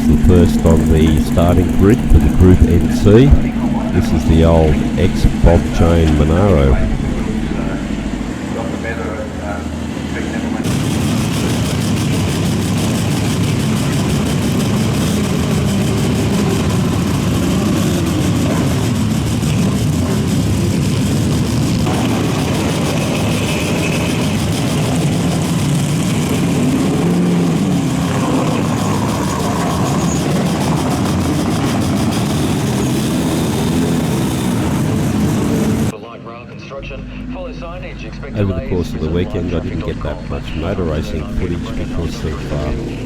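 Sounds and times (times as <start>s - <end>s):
engine throttle blips: 0.0s - 35.9s, 36.8s - 43.0s
racing car engines idling: 0.0s - 35.9s, 36.8s - 43.0s.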